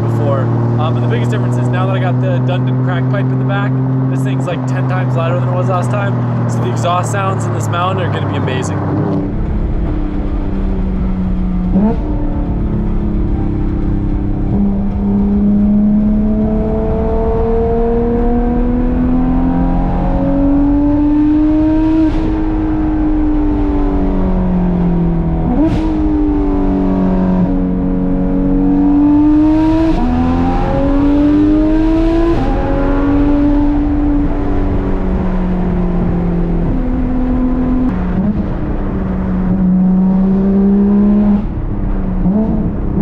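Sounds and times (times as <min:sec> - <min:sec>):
sports car engine revving: 0:00.0 - 0:43.0.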